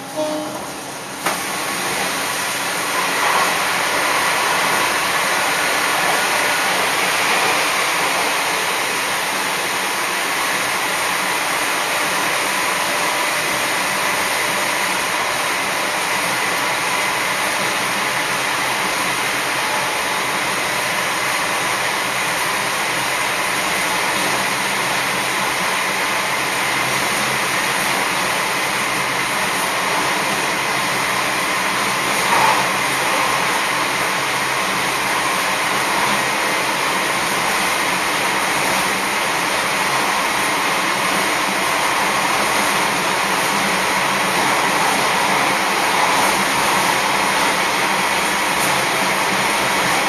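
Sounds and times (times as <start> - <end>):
train roaring through tunnel: 0.0 - 50.0.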